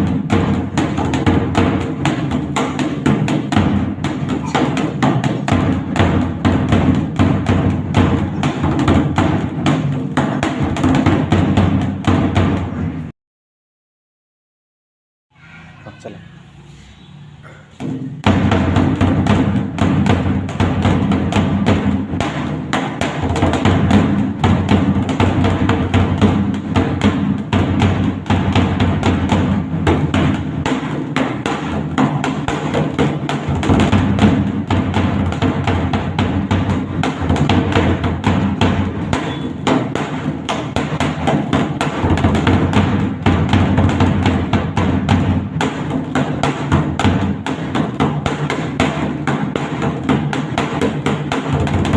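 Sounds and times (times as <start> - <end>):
barrel drum beaten with sticks: 0.0 - 12.8, 17.8 - 51.9.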